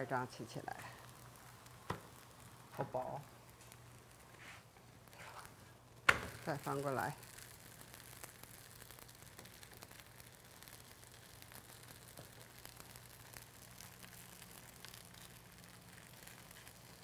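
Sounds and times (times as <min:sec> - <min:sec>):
faint electrical hum and hiss: 0:00.0 - 0:17.0.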